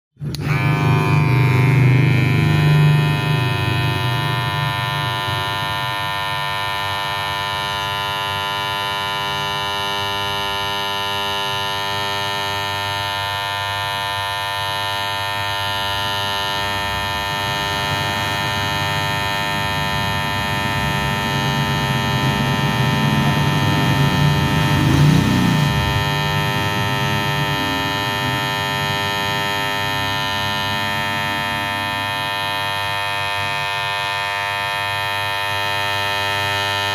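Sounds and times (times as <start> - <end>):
electric hair clipper buzzing: 0.2 - 36.9.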